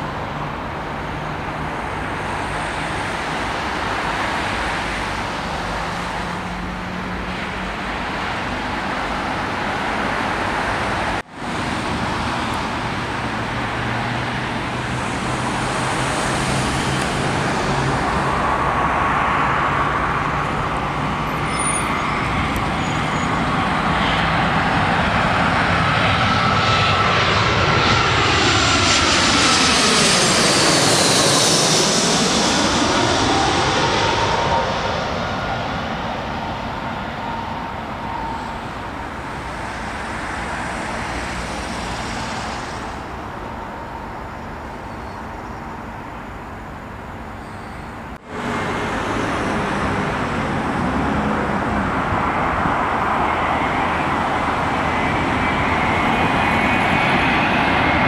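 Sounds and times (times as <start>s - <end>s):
jet airliner passing overhead: 0.0s - 58.0s
jet engine whine: 0.0s - 58.0s.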